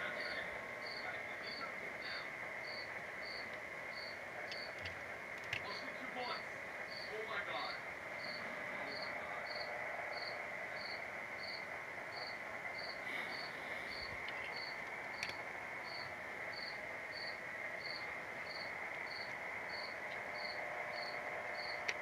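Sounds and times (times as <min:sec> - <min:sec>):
constant high whine: 0:00.0 - 0:22.0.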